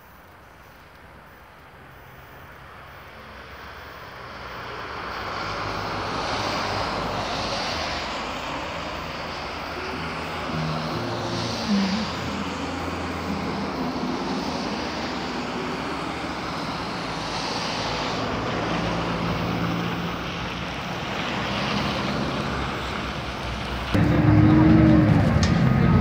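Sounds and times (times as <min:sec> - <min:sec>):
bus engine: 0:00.0 - 0:26.0
engine drone: 0:00.0 - 0:26.0.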